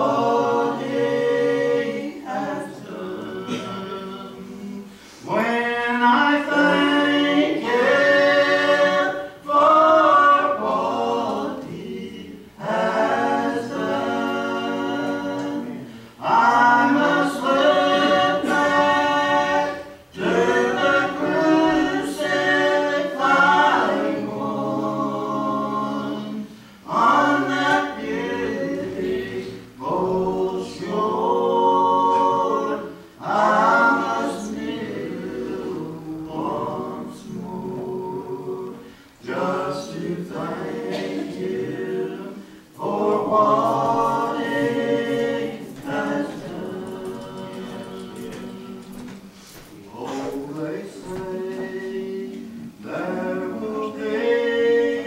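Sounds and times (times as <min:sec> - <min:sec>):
unaccompanied harmony singing: 0:00.0 - 0:55.0.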